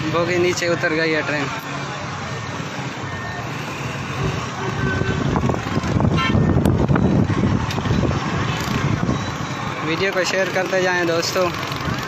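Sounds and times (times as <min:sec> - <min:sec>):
crowd talking: 0:00.0 - 0:12.0.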